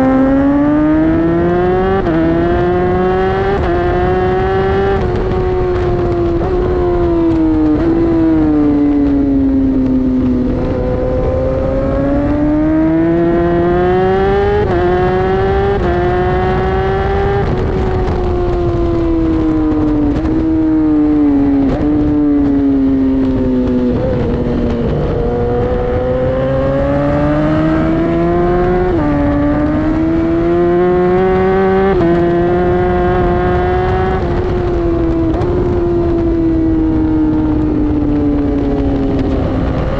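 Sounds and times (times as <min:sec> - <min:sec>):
superbike engine at speed: 0:00.0 - 0:39.9
wind noise: 0:00.0 - 0:39.9.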